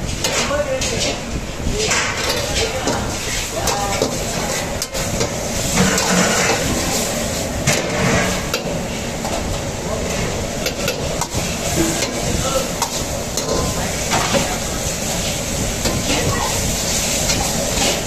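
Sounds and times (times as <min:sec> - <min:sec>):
food sizzling: 0:01.7 - 0:18.0.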